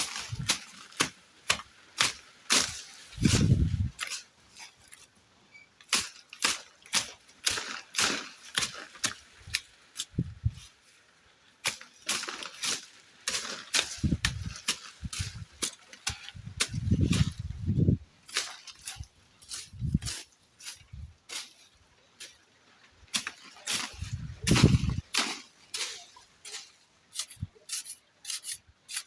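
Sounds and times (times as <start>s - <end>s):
hand tool chopping soil: 0.0s - 5.1s, 5.8s - 10.3s, 11.6s - 21.6s, 23.1s - 29.0s.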